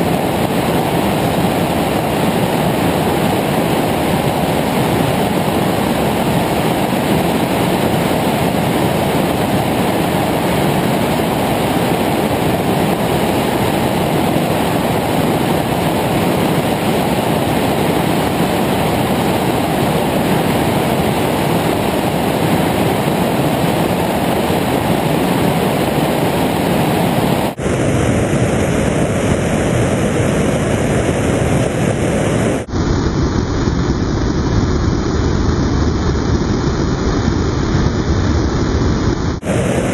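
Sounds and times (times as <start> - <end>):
plane in flight roaring: 0.0 - 39.9.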